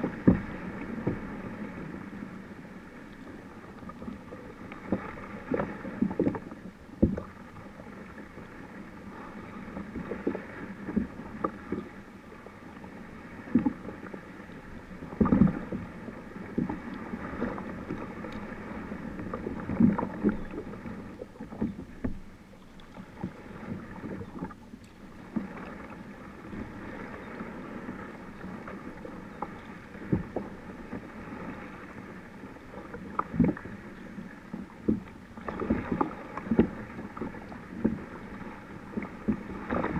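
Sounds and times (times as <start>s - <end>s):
paddle strokes and water splashes: 0.0s - 39.9s.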